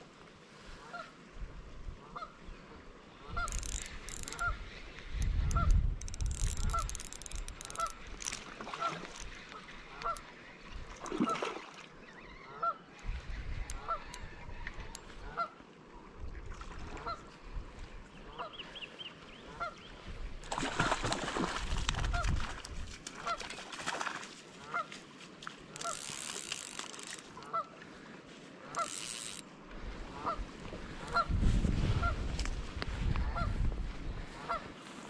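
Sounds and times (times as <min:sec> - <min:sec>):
river noise: 0:00.0 - 0:32.8
wind: 0:00.0 - 0:35.0.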